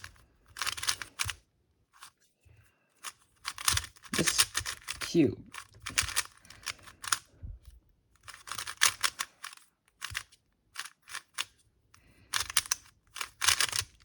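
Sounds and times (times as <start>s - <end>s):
puzzle cube plastic layers clacking: 0.0s - 2.2s, 3.0s - 7.3s, 8.2s - 11.6s, 12.2s - 14.0s.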